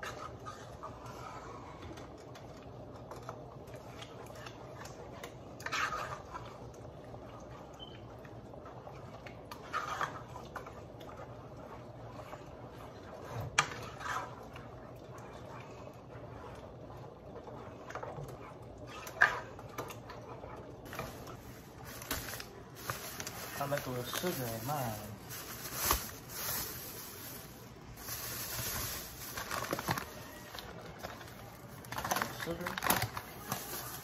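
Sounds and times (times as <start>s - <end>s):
wet scraping and squelching: 3.1s - 6.8s, 8.8s - 34.0s.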